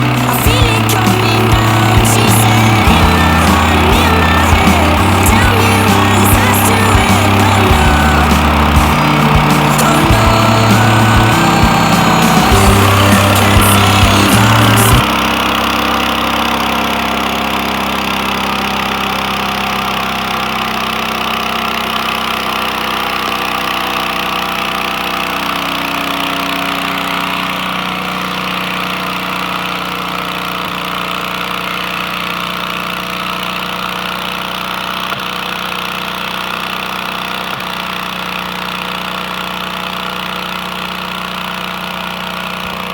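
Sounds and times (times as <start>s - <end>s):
sawmill engine droning: 0.0s - 42.9s.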